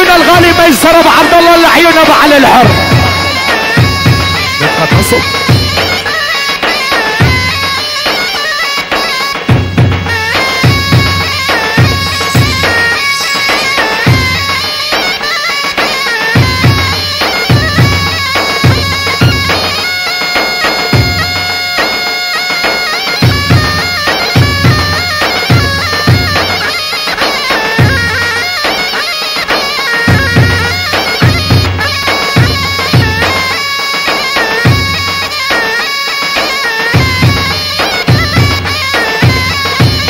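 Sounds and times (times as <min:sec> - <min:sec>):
drums beaten with sticks: 0:00.0 - 0:40.0
shrill reedy wind instrument melody: 0:00.0 - 0:40.0.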